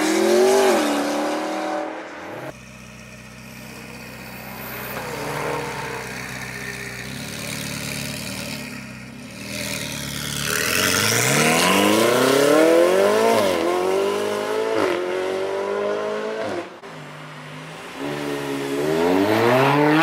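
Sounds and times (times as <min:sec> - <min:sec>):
sports car engine accelerating: 0:00.0 - 0:17.1.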